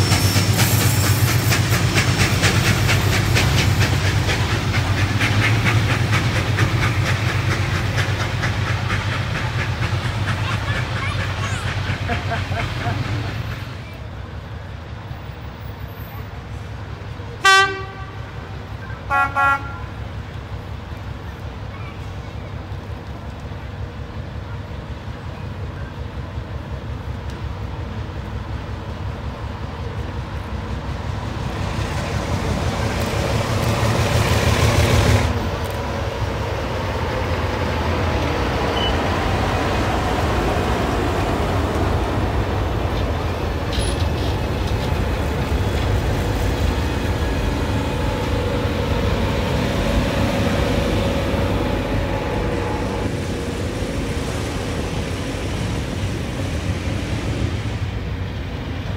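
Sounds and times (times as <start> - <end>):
diesel locomotive engine rumble: 0.0 - 58.9
train wheels rolling on rails: 0.0 - 58.9.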